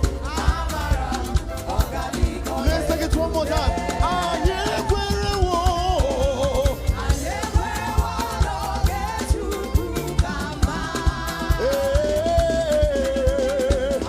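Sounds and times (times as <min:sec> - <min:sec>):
band with bass and keyboard: 0:00.0 - 0:14.0
gospel singing: 0:00.0 - 0:14.0
steady percussion beat: 0:00.0 - 0:14.0.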